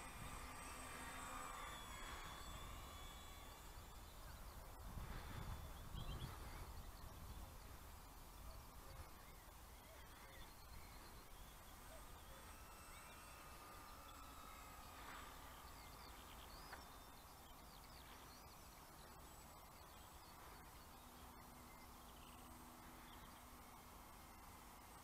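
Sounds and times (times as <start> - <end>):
distant electric motor whine: 0.0 - 25.0.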